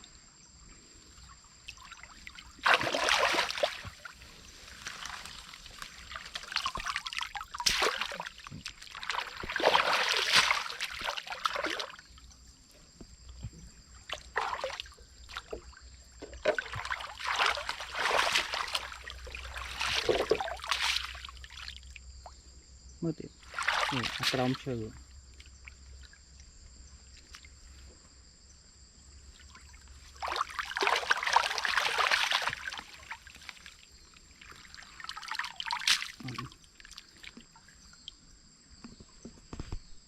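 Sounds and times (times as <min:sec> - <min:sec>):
water splashing and trickling: 0:01.0 - 0:22.4, 0:23.1 - 0:27.8, 0:29.2 - 0:38.6.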